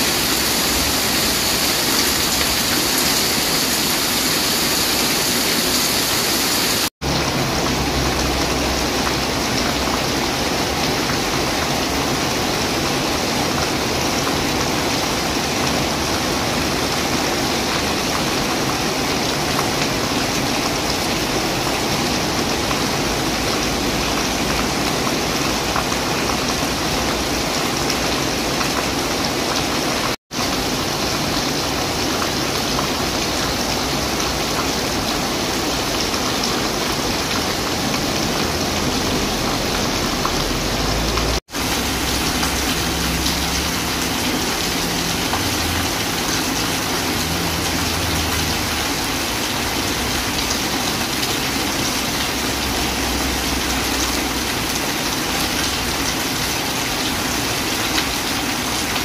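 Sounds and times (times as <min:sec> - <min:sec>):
rain splashing on wet paving: 0:00.0 - 0:59.0.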